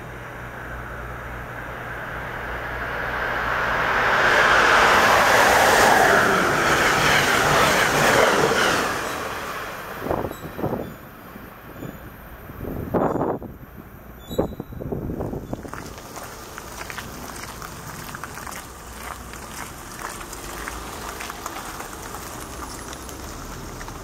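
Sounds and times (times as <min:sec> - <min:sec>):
passenger train passing at speed: 0:00.0 - 0:24.0
wind buffeting microphone: 0:02.0 - 0:22.2.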